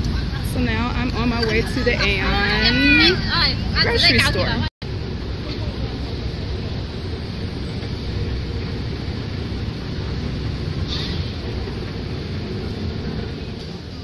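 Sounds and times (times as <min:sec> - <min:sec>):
escalator rumble: 0:00.0 - 0:14.0.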